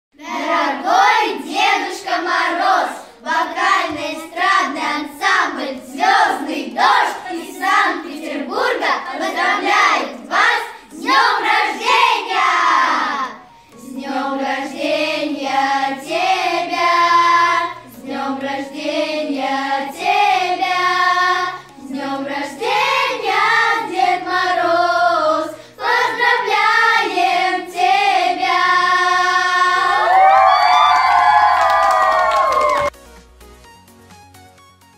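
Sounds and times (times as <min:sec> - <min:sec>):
children's choir singing: 0:00.2 - 0:31.2.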